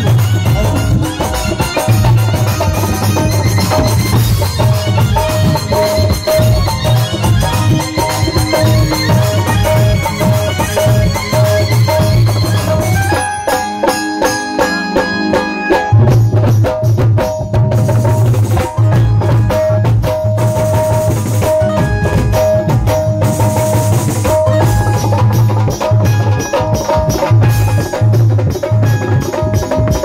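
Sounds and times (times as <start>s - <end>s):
dholak and tabla rhythm: 0.0s - 30.0s.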